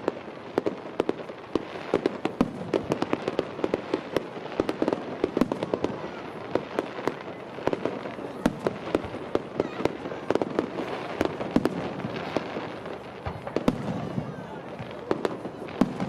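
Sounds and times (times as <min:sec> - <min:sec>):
fireworks cracking and popping: 0:00.0 - 0:16.0.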